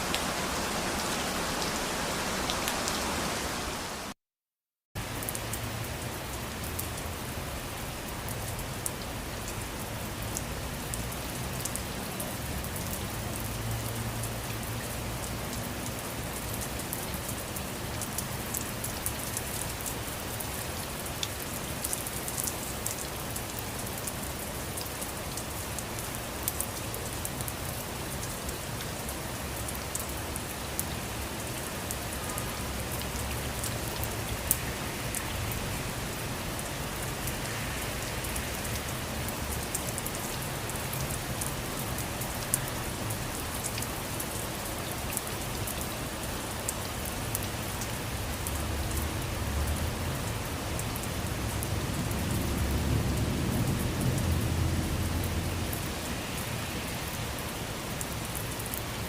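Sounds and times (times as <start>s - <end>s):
rain falling: 0.0s - 4.2s, 5.0s - 59.0s.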